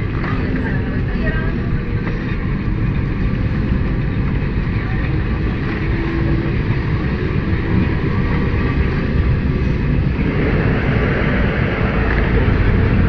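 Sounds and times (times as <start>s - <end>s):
electric tram rumbling on rails: 0.0s - 13.0s.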